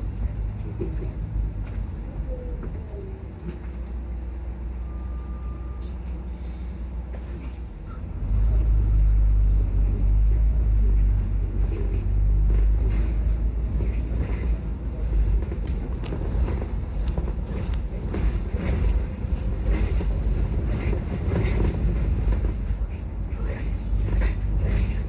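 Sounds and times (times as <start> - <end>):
bus engine rumble: 0.0 - 25.0
road noise: 0.0 - 25.0.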